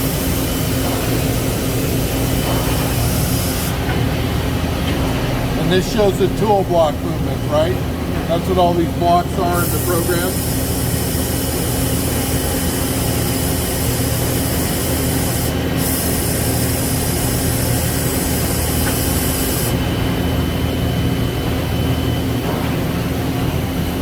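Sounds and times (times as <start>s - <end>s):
lathe machine hum: 0.0s - 22.4s.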